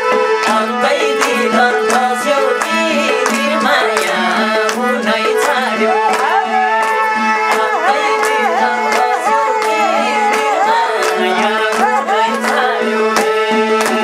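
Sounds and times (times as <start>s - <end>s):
folk singing: 0.0s - 14.0s
hands clapping: 0.0s - 14.0s
held drone note: 0.0s - 14.0s.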